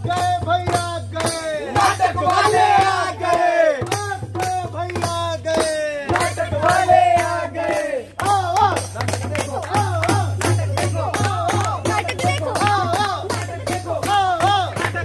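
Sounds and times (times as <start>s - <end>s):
hand drums beaten: 0.0s - 15.0s
men singing together: 0.0s - 15.0s
hands clapping: 0.7s - 15.0s.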